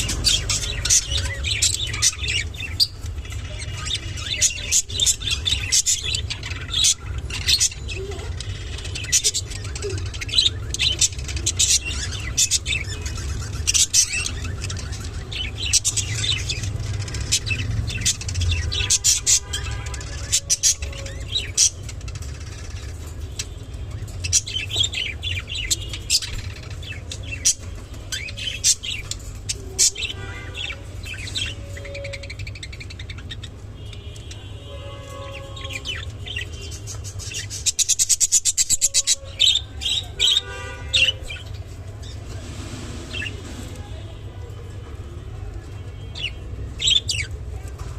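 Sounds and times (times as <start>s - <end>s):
budgerigars chirping: 0.0s - 42.2s, 46.1s - 47.4s.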